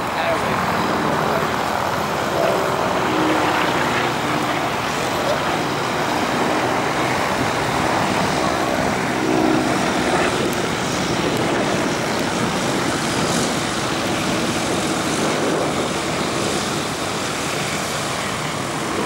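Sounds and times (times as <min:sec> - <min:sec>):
propeller plane flying overhead: 0:00.0 - 0:19.0.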